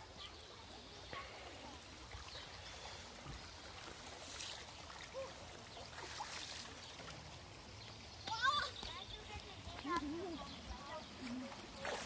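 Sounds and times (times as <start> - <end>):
children splashing water: 0.0 - 12.0
shallow stream running: 0.0 - 12.0.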